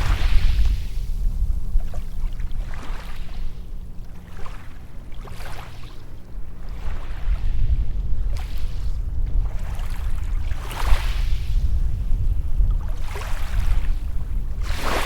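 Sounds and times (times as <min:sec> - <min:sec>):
low steady rumble: 0:00.0 - 0:15.0
small waves washing onto sand: 0:00.0 - 0:15.0.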